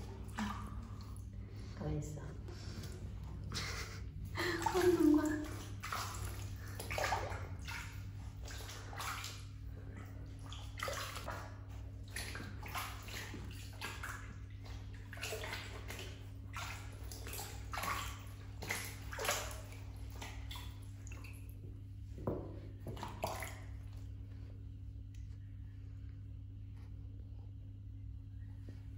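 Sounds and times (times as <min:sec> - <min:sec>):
water sloshing in a plastic tub: 0:00.0 - 0:27.2.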